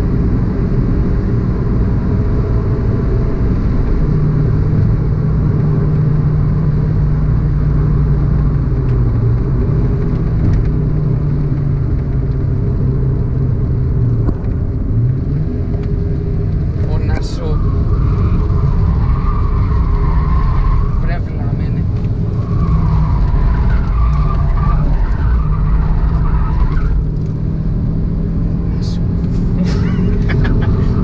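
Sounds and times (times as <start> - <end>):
car engine running: 0.0 - 31.0
road and tyre rumble: 0.0 - 31.0.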